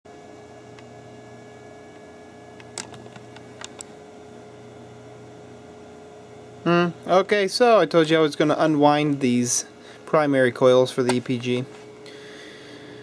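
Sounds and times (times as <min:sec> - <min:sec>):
electrical hum: 0:00.1 - 0:13.0.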